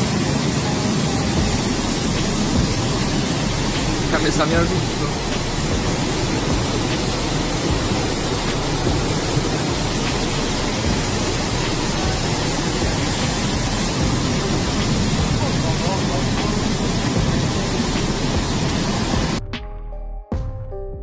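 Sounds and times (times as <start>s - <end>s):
floodwater rushing: 0.0s - 19.4s.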